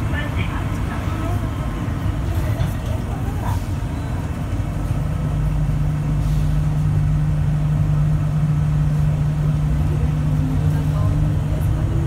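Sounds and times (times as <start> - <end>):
people mover drive hum: 0.0 - 12.0.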